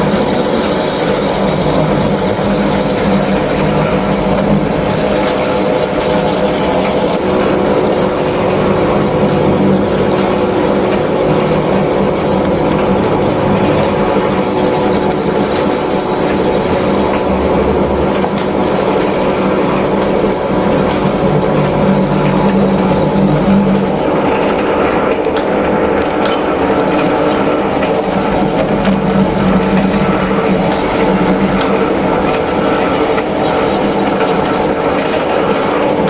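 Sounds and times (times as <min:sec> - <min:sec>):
lathe humming with high whine: 0:00.0 - 0:36.0.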